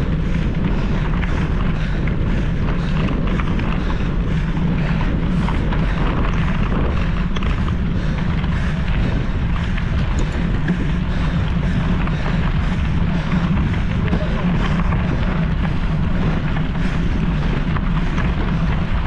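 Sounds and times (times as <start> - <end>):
bike rattling over rough trail: 0.0 - 19.0
wind buffeting microphone: 0.0 - 19.0.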